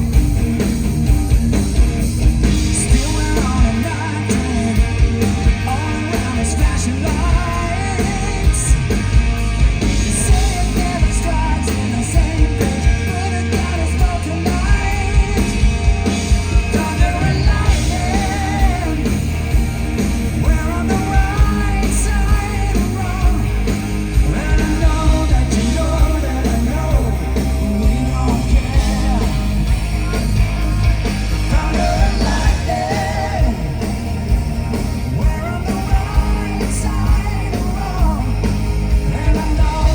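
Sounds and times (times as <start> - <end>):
hard rock band playing: 0.0 - 39.9
man singing lead vocals: 2.6 - 39.9.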